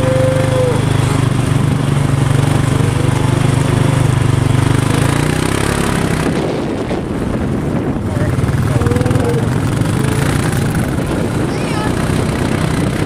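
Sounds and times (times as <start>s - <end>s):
vehicle engine idling low: 0.0s - 13.0s.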